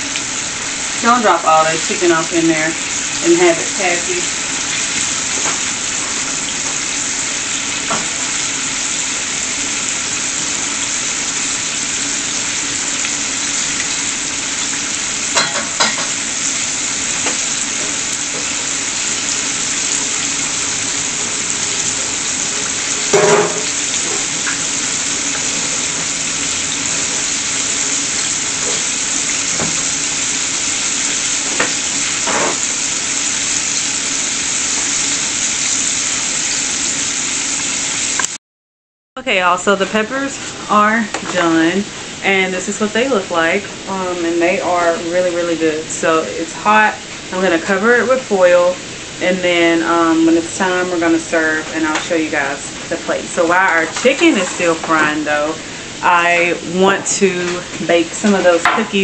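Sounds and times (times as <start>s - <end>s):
chicken deep-frying in oil: 0.0s - 38.4s, 39.3s - 59.0s.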